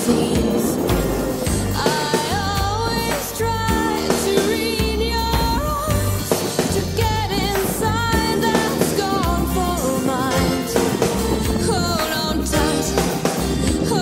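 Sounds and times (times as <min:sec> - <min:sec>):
song with singing and beat: 0:00.0 - 0:14.0.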